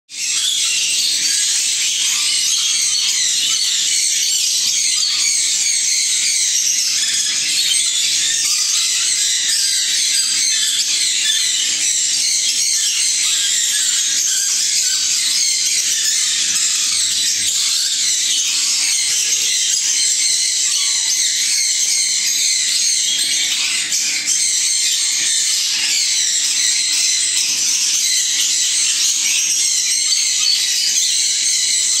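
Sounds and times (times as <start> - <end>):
budgerigars chattering: 0.2 - 32.0.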